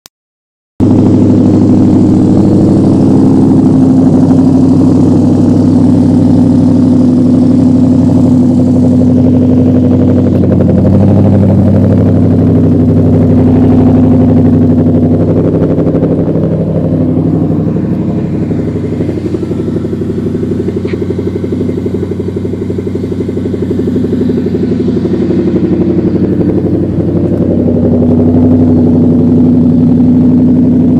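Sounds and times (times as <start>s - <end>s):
car engine idling: 0.8s - 30.9s.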